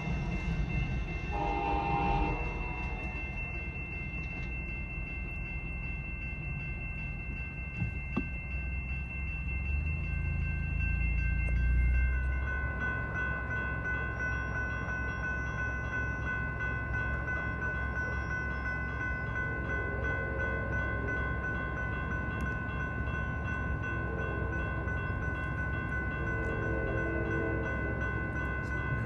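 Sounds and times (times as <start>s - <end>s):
crossing warning bell ringing: 0.0s - 29.0s
train rumbling past: 0.0s - 29.0s.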